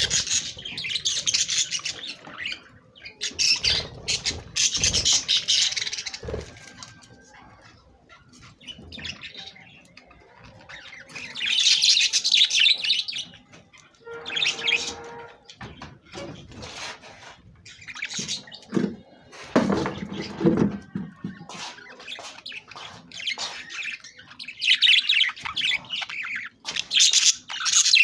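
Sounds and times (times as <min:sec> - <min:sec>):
budgerigars chirping and chattering: 0:00.0 - 0:28.0.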